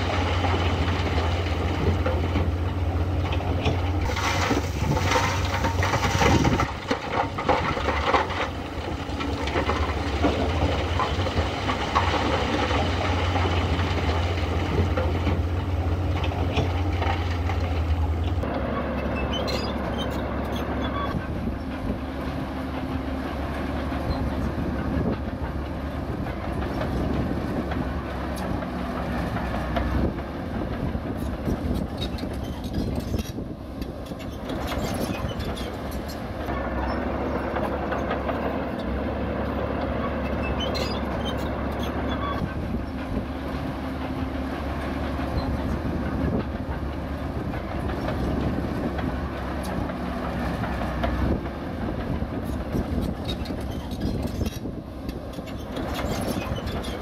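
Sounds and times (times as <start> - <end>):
steel tracks clanking: 0.0 - 21.4, 23.4 - 57.0
bulldozer diesel engine: 0.0 - 57.0.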